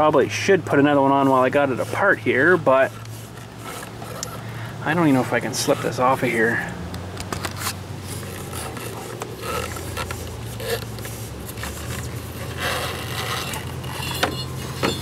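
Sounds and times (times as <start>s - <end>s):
rubber belt rubbing and scraping: 0.0s - 15.0s.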